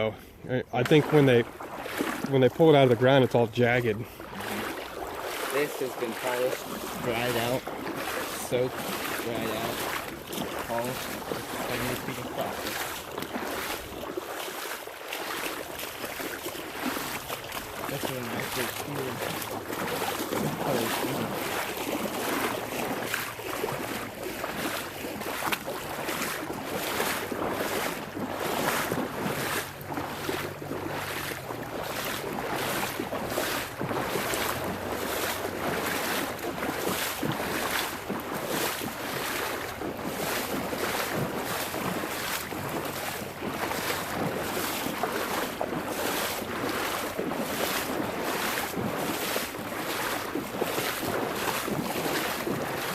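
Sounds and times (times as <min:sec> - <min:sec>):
footsteps wading through water: 0:00.0 - 0:52.9
water washing: 0:00.0 - 0:52.9.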